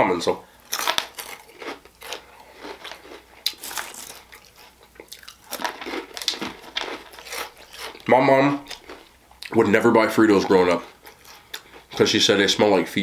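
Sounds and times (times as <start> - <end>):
chips crunching and chewing: 0.6 - 9.6, 10.4 - 12.2.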